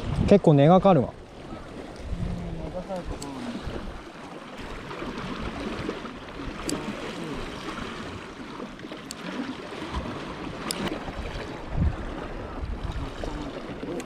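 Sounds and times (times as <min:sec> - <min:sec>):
seawater sloshing among blocks: 0:01.3 - 0:14.0.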